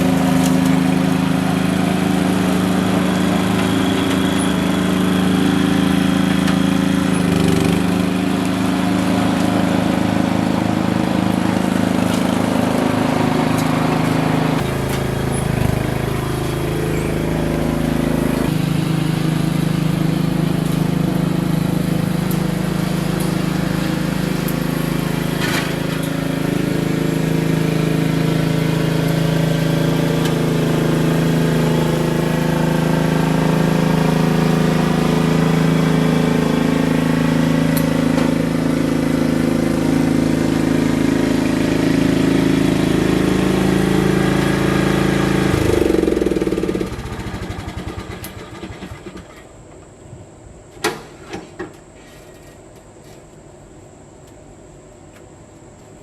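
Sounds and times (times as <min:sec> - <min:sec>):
lawn mower engine running: 0:00.0 - 0:54.3.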